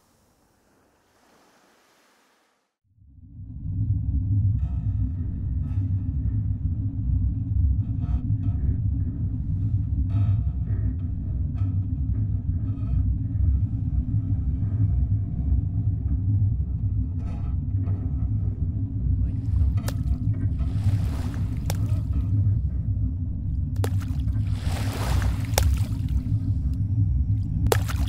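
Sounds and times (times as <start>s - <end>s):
low rumbling drone: 2.9s - 28.0s.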